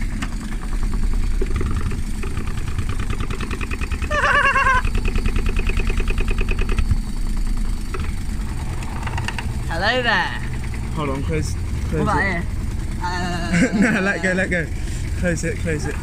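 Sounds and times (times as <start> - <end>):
washing machine motor spinning drum: 0.0 - 16.0
wavering whine: 0.0 - 16.0.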